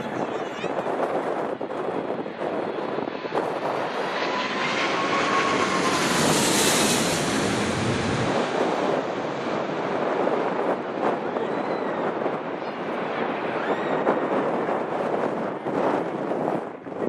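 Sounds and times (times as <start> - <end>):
jet airliner flying overhead: 0.0 - 17.0.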